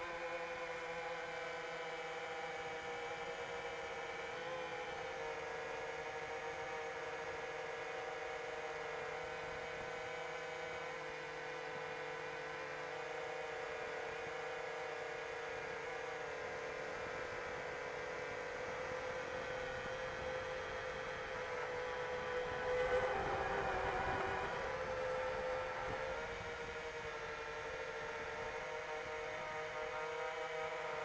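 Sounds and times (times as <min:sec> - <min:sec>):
drone motors humming: 0:00.0 - 0:31.0.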